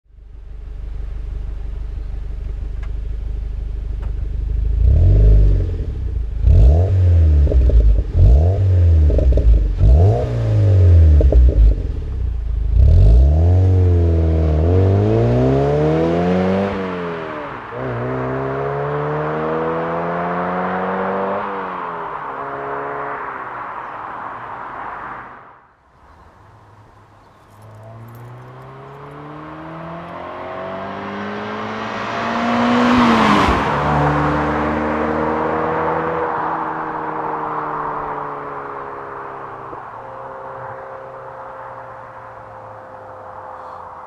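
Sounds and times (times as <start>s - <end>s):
car engine revving and accelerating: 4.5s - 24.0s, 27.5s - 43.8s.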